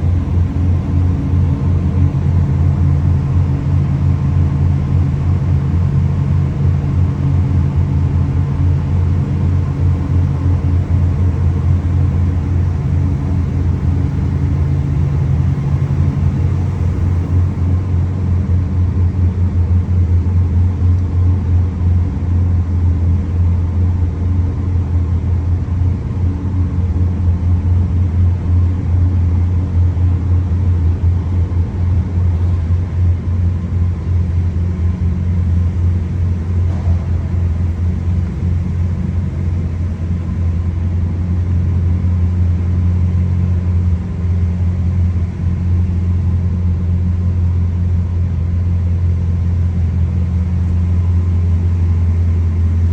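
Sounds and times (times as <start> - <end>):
car engine idling: 0.0 - 23.4, 29.2 - 47.0, 49.5 - 52.9.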